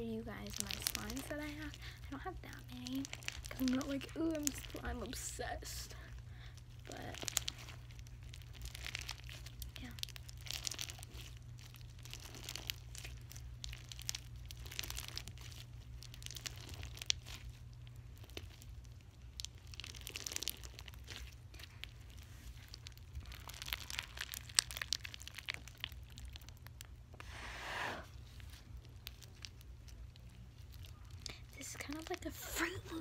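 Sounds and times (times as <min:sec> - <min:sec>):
slime squishing with crackling clicks: 0:00.1 - 0:27.3, 0:28.2 - 0:33.0.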